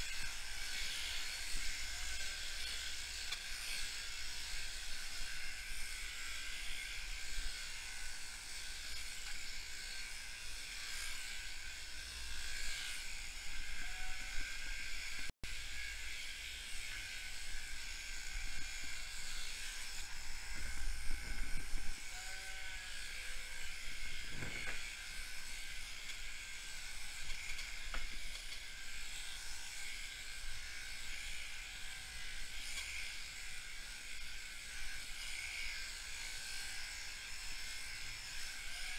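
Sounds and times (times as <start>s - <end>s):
electric shears whining: 0.0s - 38.9s.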